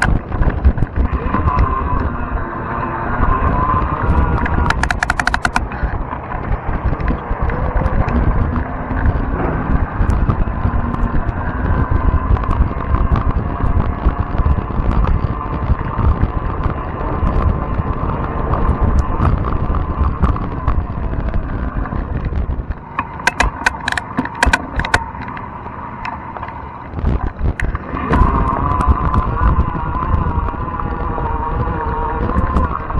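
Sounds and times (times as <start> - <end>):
sharp rattling clicks: 0.0 - 2.1, 3.8 - 31.0
electric bike whine: 0.0 - 32.9
wind buffeting microphone: 0.0 - 32.9.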